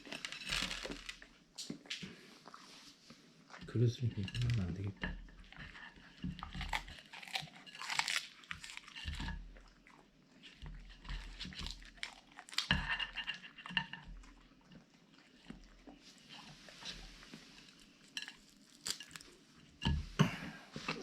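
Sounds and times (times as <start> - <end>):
dog crunching and chewing food: 0.0 - 2.7, 3.4 - 19.8.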